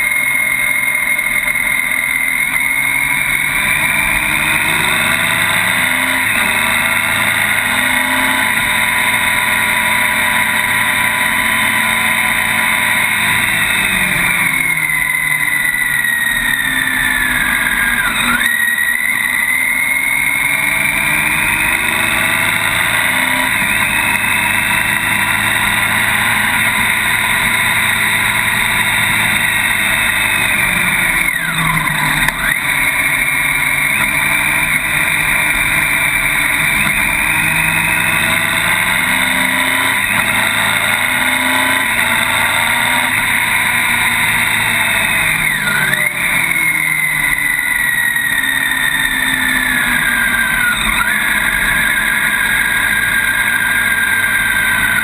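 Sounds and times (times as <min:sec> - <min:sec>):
high whine: 0:00.0 - 0:55.0
motorcycle engine: 0:00.0 - 0:55.0.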